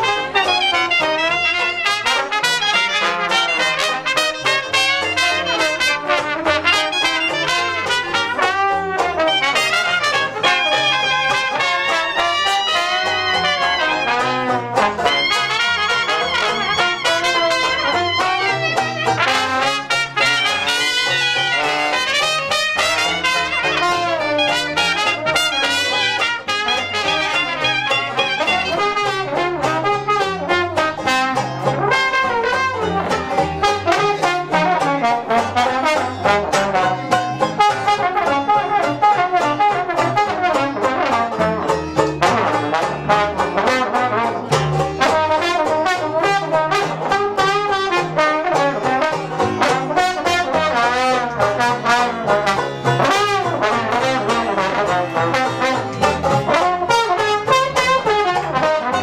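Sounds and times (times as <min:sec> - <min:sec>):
string bass: 0:00.0 - 0:59.0
trombone: 0:00.0 - 0:59.0
trumpet: 0:00.0 - 0:59.0.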